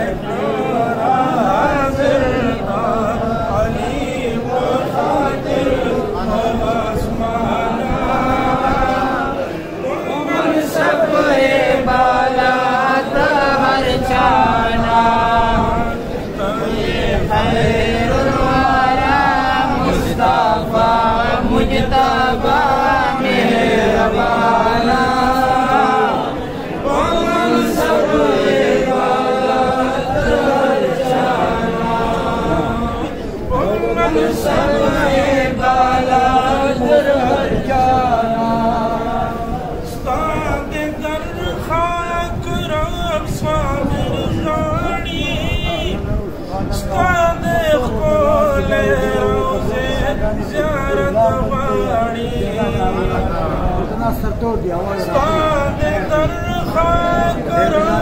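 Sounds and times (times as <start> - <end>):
men chanting: 0.0 - 58.0.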